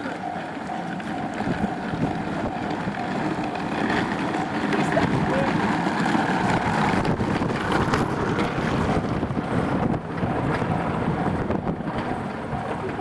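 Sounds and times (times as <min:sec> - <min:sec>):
train wheels rumbling: 0:00.0 - 0:13.0
wind noise on microphone: 0:01.4 - 0:13.0.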